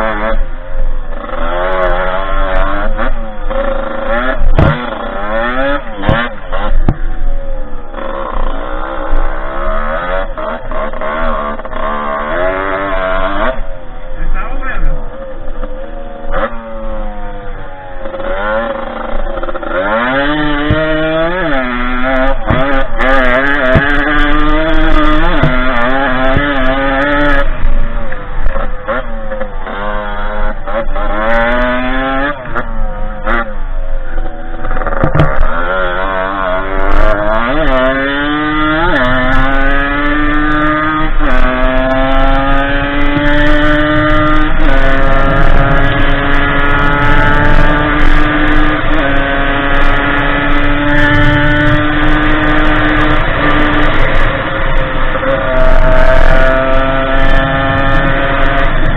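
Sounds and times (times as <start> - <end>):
dirt bike two-stroke engine revving: 0.0 - 58.9.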